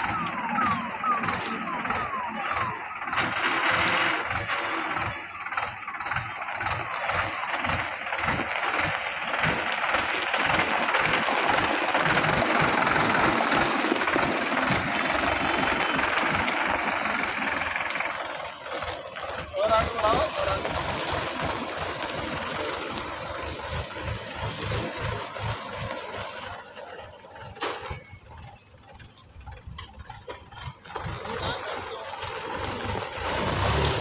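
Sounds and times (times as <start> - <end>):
diesel tractor engine chugging: 0.0 - 34.0.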